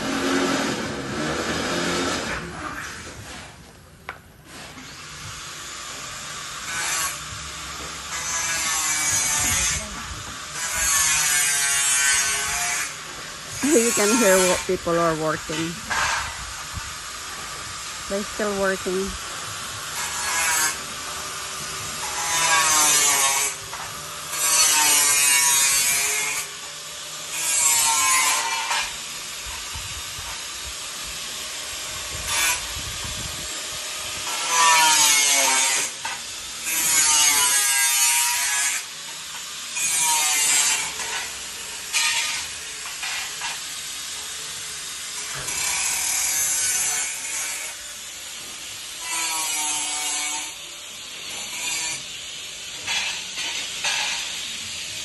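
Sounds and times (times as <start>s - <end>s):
wood being sawn: 0.0s - 3.8s, 4.5s - 54.7s.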